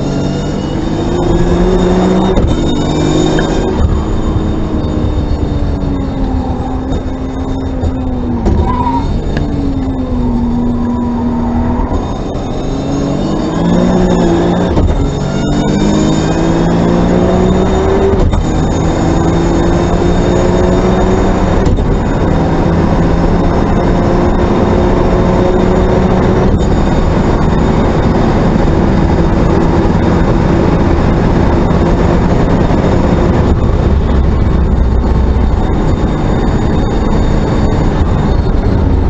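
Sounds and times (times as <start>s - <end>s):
racing car engine at full throttle: 0.0s - 39.0s
road and wind noise: 0.0s - 39.0s.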